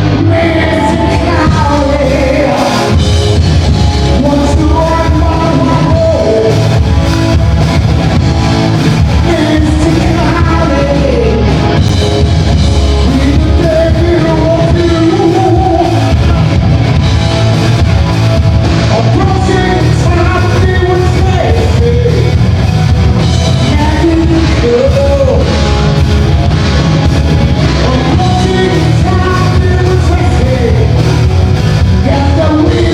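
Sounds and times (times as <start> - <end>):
lead vocalist singing: 0.0 - 7.4, 8.9 - 17.1, 18.9 - 26.0, 27.6 - 32.9
loud rock music: 0.0 - 32.9.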